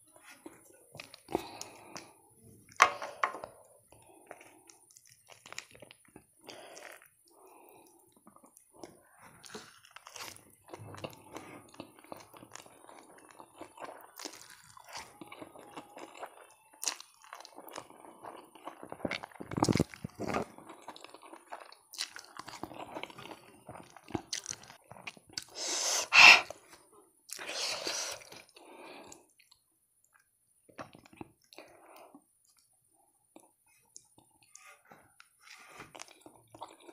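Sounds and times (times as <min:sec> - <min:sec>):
person chewing and slurping noodles: 0:00.1 - 0:30.2, 0:33.3 - 0:36.9.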